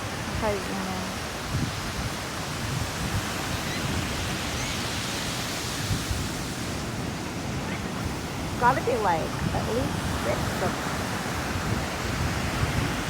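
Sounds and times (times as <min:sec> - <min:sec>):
ocean surf washing: 0:00.0 - 0:13.0
wind rumble on microphone: 0:00.0 - 0:13.0.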